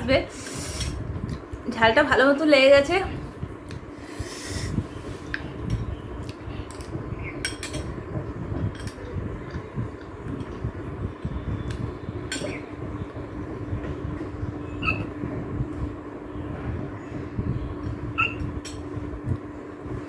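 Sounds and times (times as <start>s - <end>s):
low rumble and hum: 0.0s - 20.0s.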